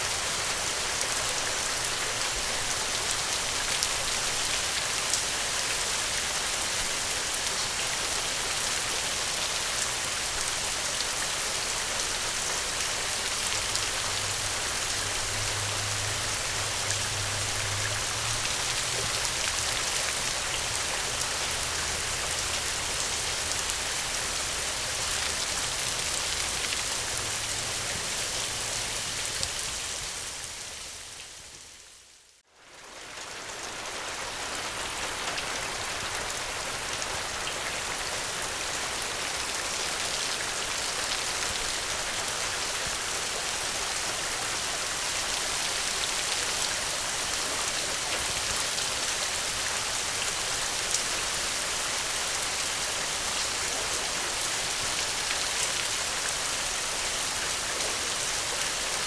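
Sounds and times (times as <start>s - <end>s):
steady dense rain: 0.0s - 59.0s.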